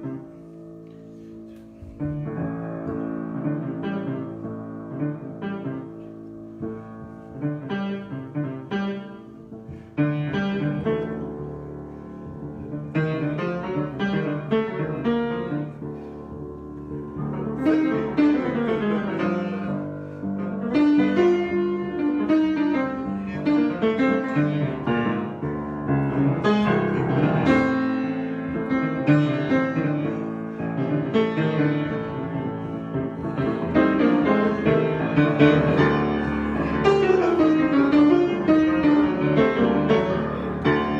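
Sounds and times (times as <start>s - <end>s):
piano notes and chords: 0.0s - 40.9s.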